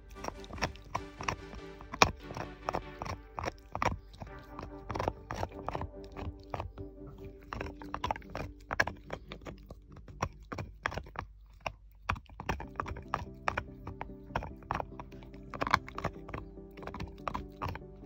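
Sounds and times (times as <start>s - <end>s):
background music: 0.0s - 11.2s, 12.5s - 18.0s
dog gnawing antler chew: 0.0s - 18.0s.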